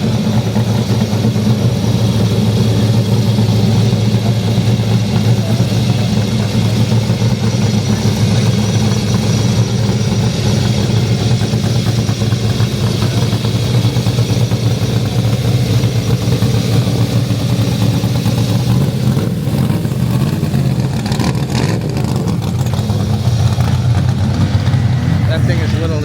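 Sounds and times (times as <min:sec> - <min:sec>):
race car engine idling: 0:00.0 - 0:26.0.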